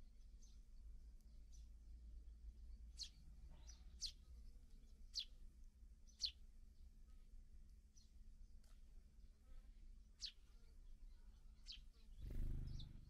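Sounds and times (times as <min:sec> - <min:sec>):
faint low hum: 0:00.0 - 0:13.0
sparrows chirping: 0:00.0 - 0:13.0.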